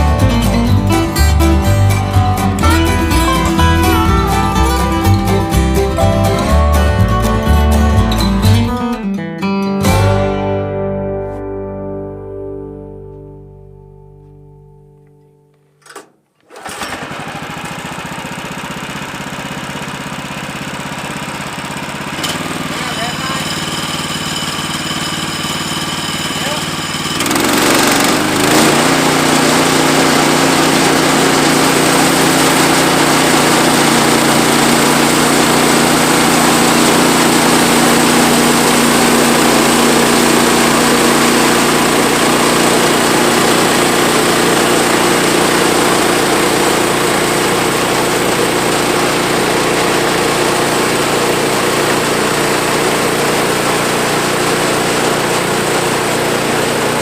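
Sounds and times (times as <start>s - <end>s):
sawmill engine running: 0.0s - 8.8s, 15.9s - 57.0s.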